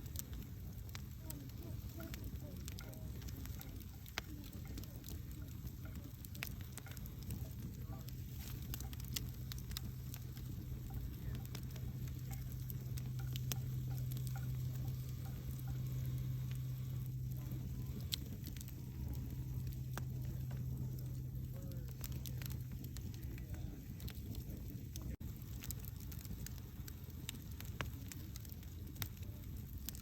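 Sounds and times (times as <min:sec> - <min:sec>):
campfire crackling and popping: 0:00.0 - 0:30.0
low steady hum: 0:00.0 - 0:30.0.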